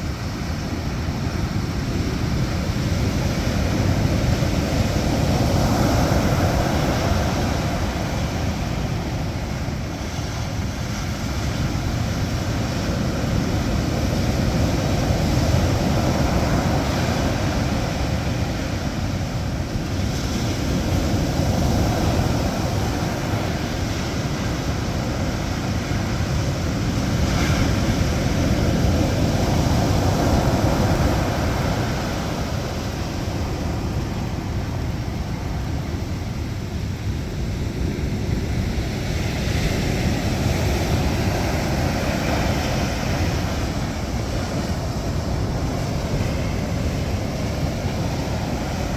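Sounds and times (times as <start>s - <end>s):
rough sea surf: 0.0s - 48.9s
wind buffeting microphone: 0.0s - 48.9s.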